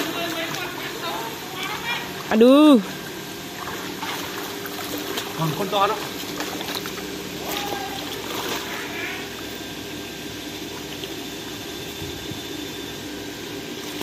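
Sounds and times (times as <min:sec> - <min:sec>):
water sloshing from wading: 0:00.0 - 0:12.5
faint steady hum: 0:00.0 - 0:14.0.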